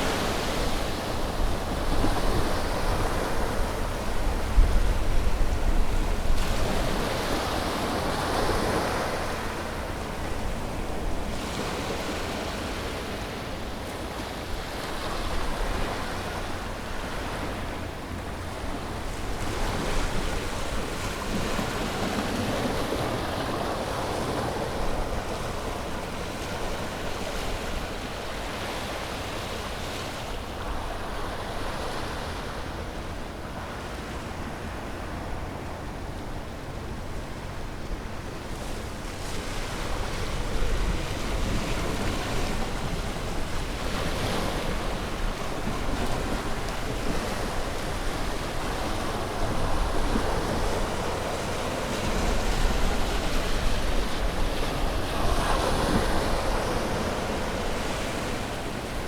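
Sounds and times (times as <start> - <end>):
low rumble of surf: 0.0 - 59.0
ocean waves breaking on beach: 0.0 - 59.0.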